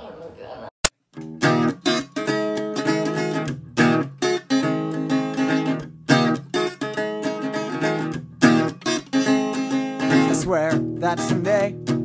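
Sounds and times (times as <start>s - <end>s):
strummed acoustic guitar: 1.2s - 12.0s.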